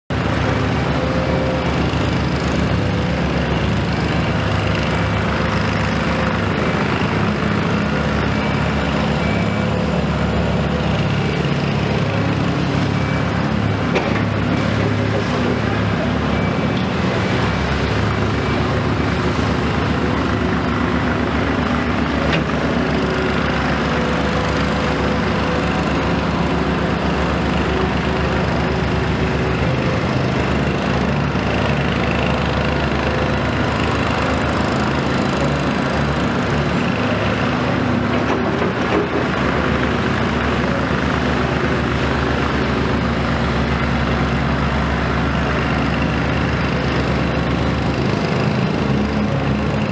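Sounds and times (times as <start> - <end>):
excavator diesel engine running: 0.1 - 49.9.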